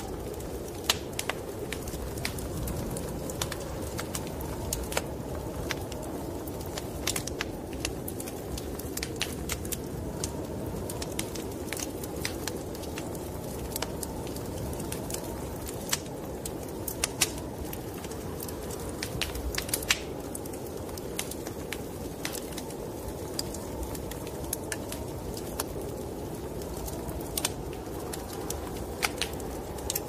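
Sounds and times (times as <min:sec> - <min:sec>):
sharp pops and snaps: 0:00.0 - 0:25.9, 0:26.6 - 0:30.0
low whoosh of wind: 0:00.0 - 0:30.0
wood fire crackling: 0:00.0 - 0:30.0.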